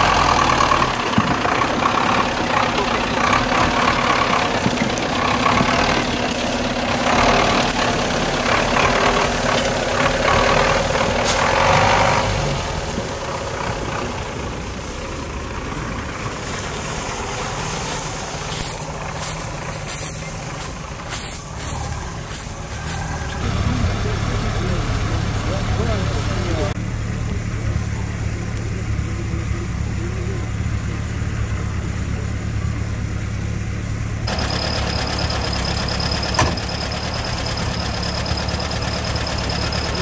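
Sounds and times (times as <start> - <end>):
truck engine working hard: 0.0 - 40.0.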